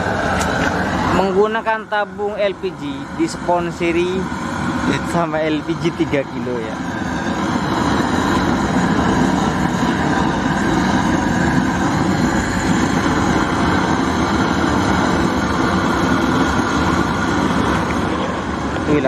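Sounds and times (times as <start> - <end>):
gas torch flame rushing: 0.0 - 19.0.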